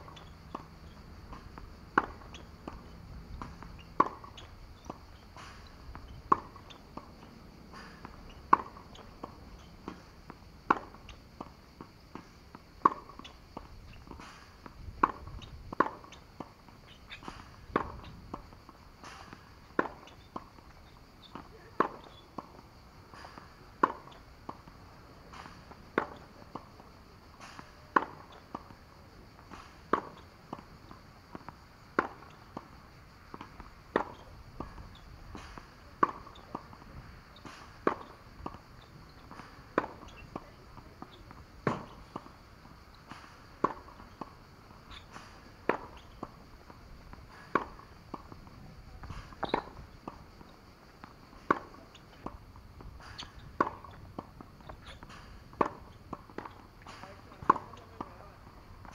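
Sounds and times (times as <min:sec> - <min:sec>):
racket hitting tennis ball: 0:00.0 - 0:58.9
tennis ball bouncing: 0:00.0 - 0:58.9.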